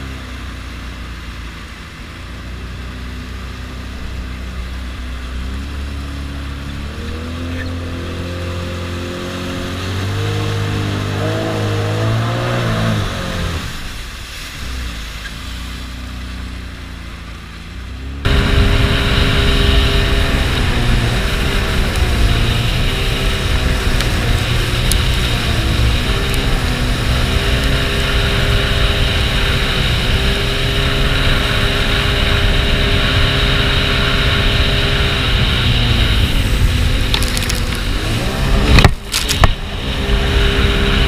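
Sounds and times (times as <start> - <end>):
jet ski engine drone: 0.0 - 41.0
wind: 0.0 - 41.0.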